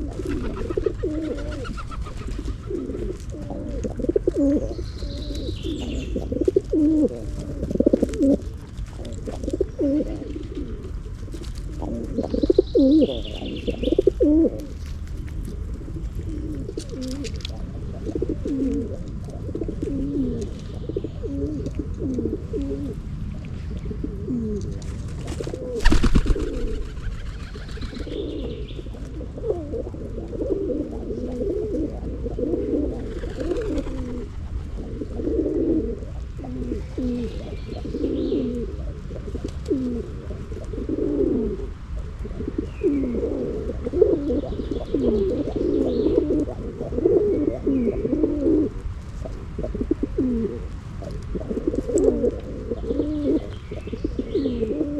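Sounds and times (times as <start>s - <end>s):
pigeons cooing: 0.0s - 54.9s
steady low rumble: 0.0s - 54.9s.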